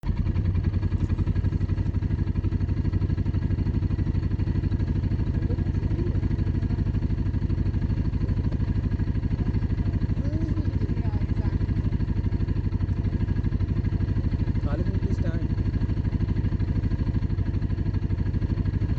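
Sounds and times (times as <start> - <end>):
dirt bike engine idling: 0.0 - 18.9.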